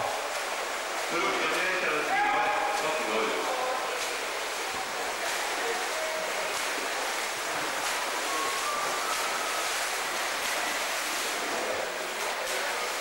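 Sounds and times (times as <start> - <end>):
swimmers splashing in a pool: 0.0 - 13.0.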